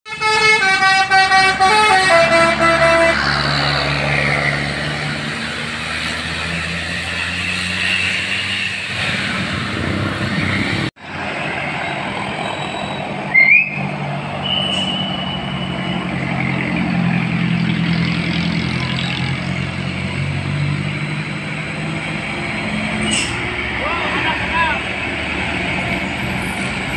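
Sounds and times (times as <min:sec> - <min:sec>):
bus engine running: 0:00.1 - 0:26.9
road traffic: 0:00.1 - 0:26.9.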